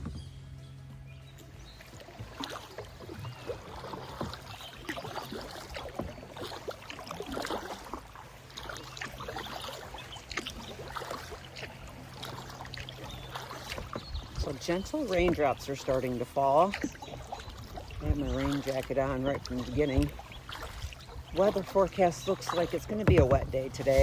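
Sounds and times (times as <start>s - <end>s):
water splashing and dripping: 1.3s - 24.0s.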